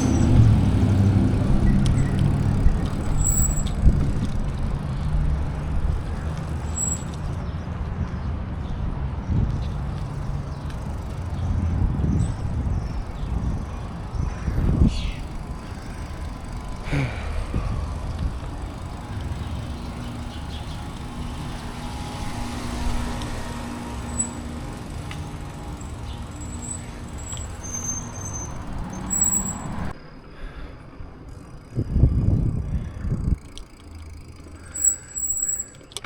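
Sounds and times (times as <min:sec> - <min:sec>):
wind rumbling on microphone: 0:00.0 - 0:29.9, 0:31.0 - 0:33.9
road traffic passing: 0:00.0 - 0:36.0.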